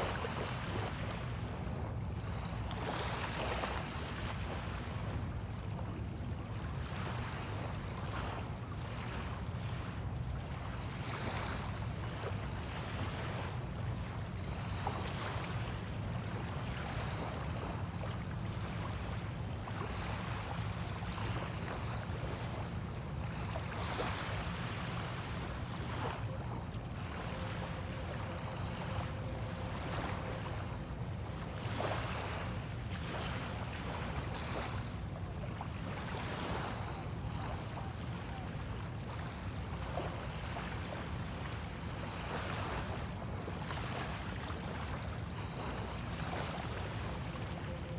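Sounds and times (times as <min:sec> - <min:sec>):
waves lapping at shore: 0:00.0 - 0:47.9.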